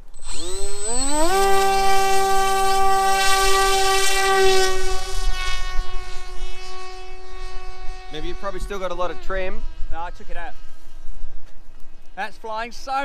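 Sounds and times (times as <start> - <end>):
electric motor and propeller whine: 0.0 - 13.0.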